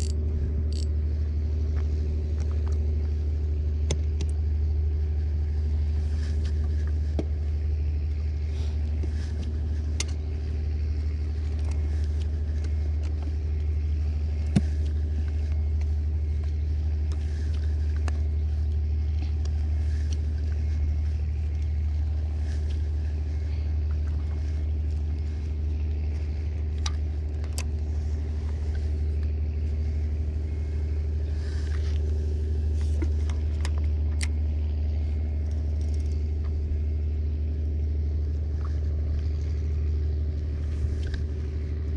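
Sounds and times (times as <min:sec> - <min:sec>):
low engine drone: 0:00.0 - 0:41.9.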